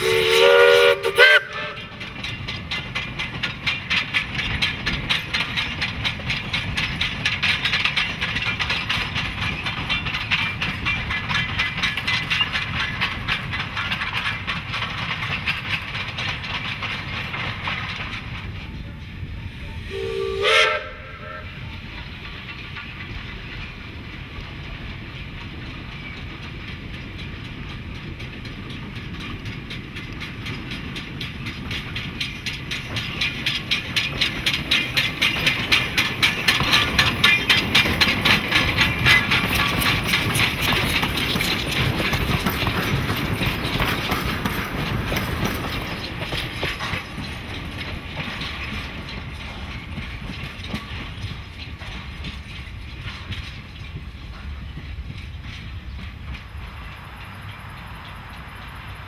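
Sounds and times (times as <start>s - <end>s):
steam locomotive passing: 0.0s - 59.0s.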